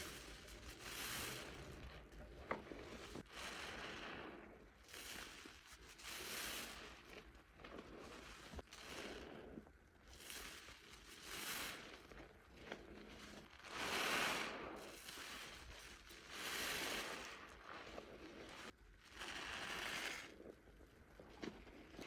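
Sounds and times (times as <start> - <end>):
wet soap foam squelching: 0.0 - 22.0.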